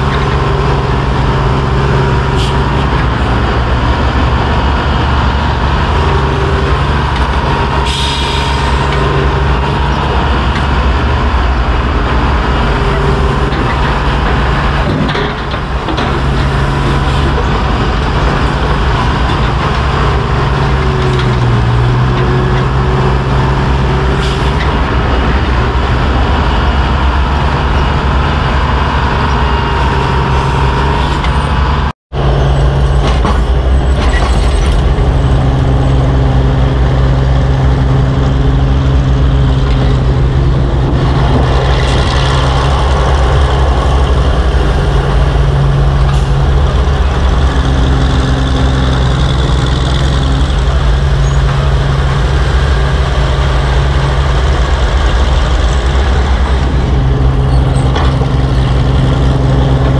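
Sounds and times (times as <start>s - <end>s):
power shovel engines running: 0.0s - 59.9s.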